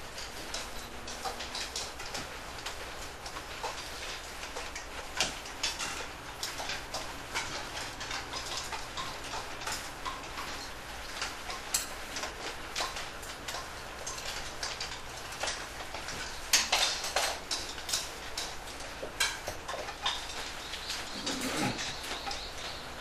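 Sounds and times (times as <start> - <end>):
utensils clicking against bowls: 0.0 - 23.0.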